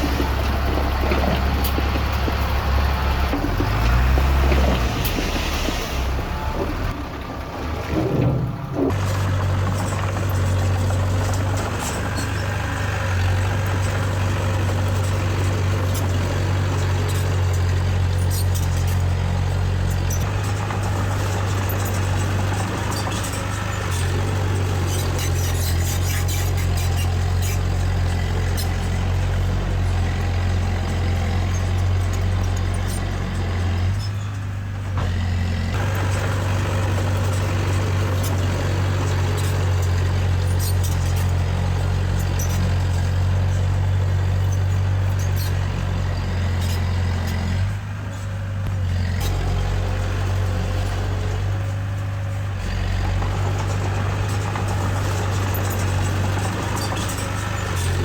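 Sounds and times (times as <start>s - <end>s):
clanks and rattles: 0.0s - 58.0s
heavy diesel engine running: 0.0s - 58.0s.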